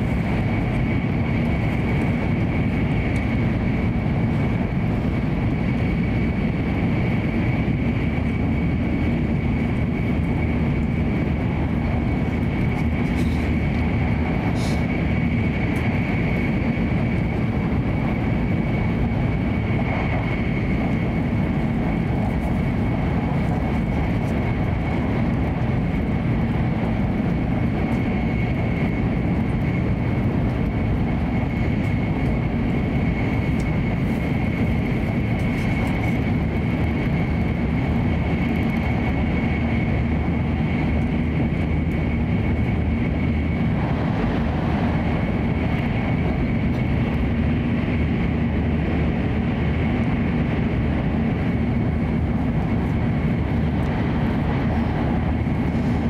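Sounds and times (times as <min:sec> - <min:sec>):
train wheels on rail roaring: 0:00.0 - 0:56.0.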